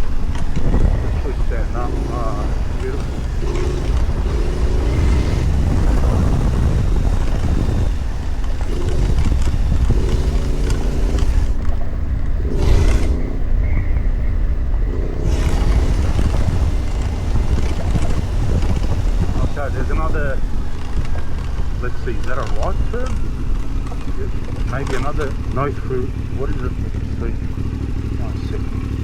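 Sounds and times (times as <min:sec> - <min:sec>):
motorcycle engine running: 0:00.0 - 0:29.0
wind rumble on microphone: 0:00.0 - 0:29.0.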